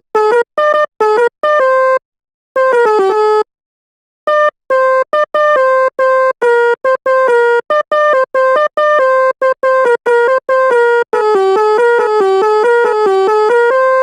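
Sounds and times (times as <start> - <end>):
sampled bus horn melody: 0.0 - 2.0, 2.6 - 3.5, 4.3 - 14.0.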